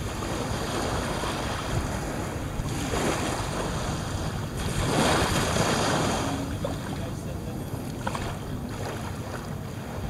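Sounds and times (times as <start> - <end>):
small waves on sandy beach: 0.0 - 10.0
wind rumble on microphone: 0.0 - 10.0.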